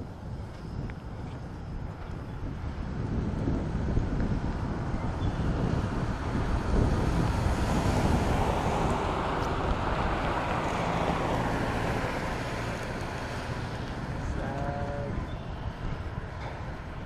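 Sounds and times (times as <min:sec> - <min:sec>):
diesel locomotive engine rumbling: 0:02.7 - 0:17.0.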